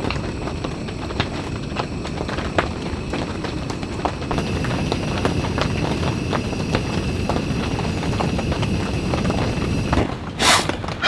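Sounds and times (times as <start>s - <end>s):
rain falling on tent fabric: 0.0s - 10.2s.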